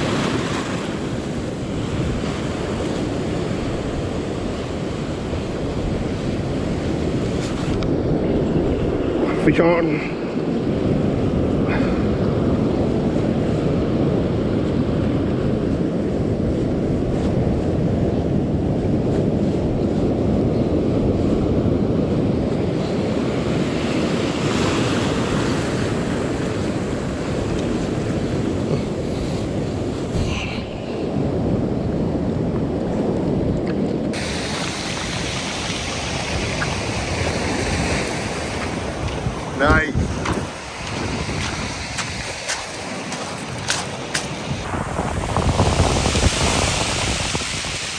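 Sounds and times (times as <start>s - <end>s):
ocean surf breaking: 0.0s - 47.9s
wind buffeting microphone: 0.0s - 47.9s.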